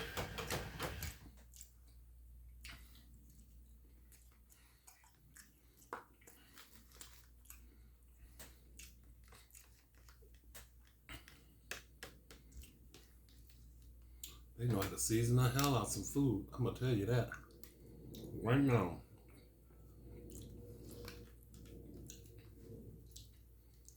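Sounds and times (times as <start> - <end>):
faint low hum: 0.0 - 23.9
close-up chewing and mouth clicks: 1.2 - 15.9, 17.2 - 18.4, 19.0 - 23.9.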